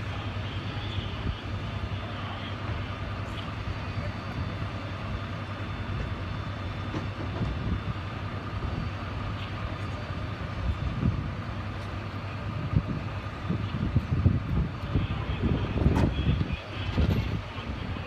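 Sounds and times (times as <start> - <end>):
large engine running low: 0.0 - 18.0.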